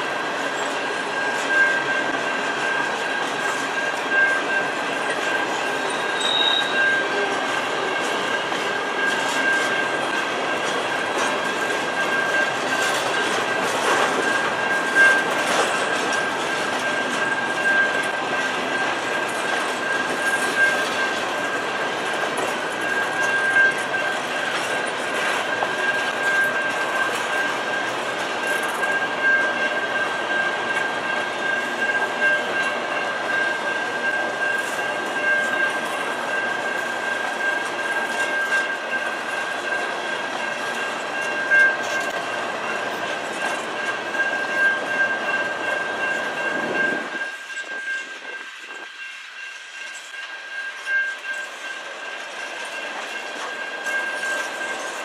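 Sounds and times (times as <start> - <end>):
wheels clicking over rail joints: 0.0 - 48.4
train wheels rumbling on rails: 0.0 - 55.0.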